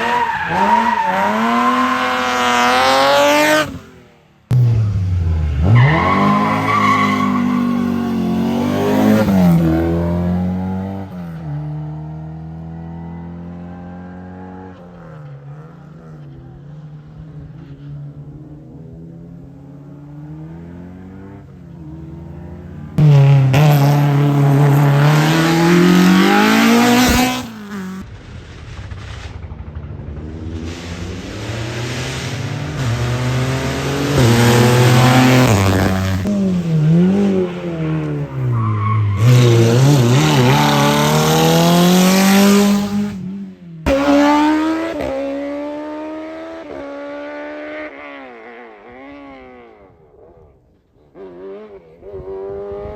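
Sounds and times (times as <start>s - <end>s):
racing car engines revving: 0.0s - 28.1s, 30.0s - 52.9s.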